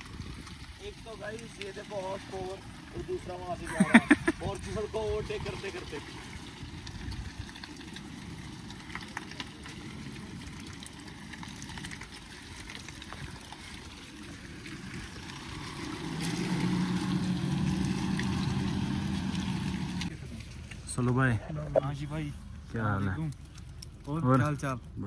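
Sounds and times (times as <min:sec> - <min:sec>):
off-road vehicle engine: 0:00.0 - 0:25.0.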